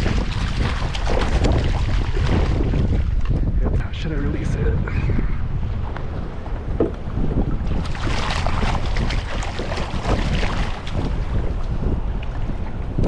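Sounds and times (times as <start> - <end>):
water splashing against kayak: 0.0 - 3.8, 5.5 - 13.0
wind buffeting microphone: 0.0 - 13.0.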